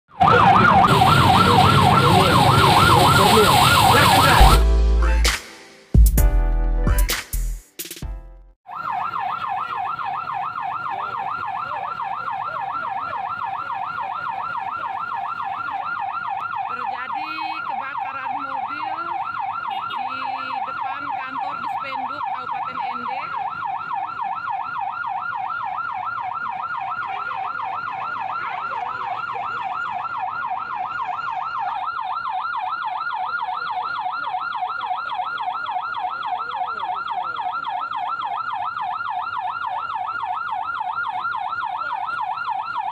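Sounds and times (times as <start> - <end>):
siren yelping: 0.1 - 5.4, 8.7 - 42.9.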